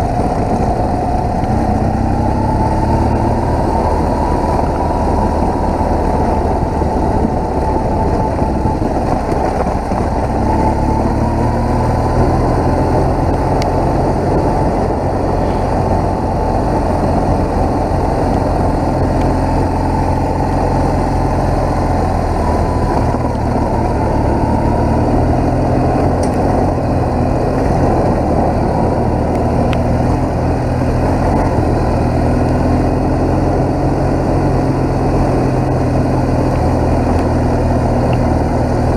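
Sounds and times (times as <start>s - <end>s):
loud rushing noise: 0.0s - 32.0s
motorcycle engine running: 0.0s - 38.9s.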